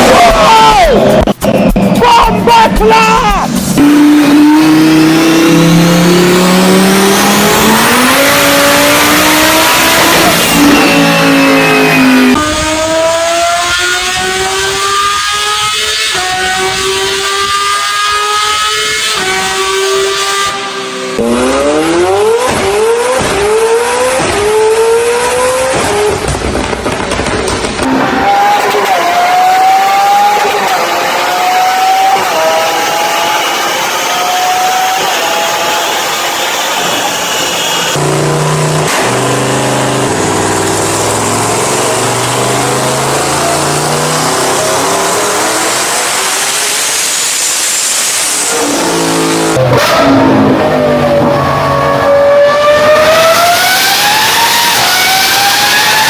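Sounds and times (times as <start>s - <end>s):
car engine revving and accelerating: 2.9s - 56.0s.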